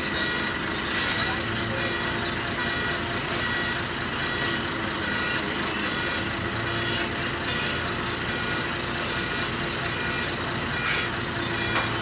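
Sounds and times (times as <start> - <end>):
electronic warning alarm beeping: 0.0 - 12.0
excavator engine running: 0.0 - 12.0.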